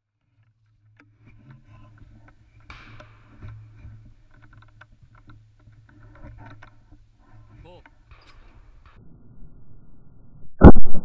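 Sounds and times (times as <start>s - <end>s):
small clicks and knocks: 0.1s - 9.0s.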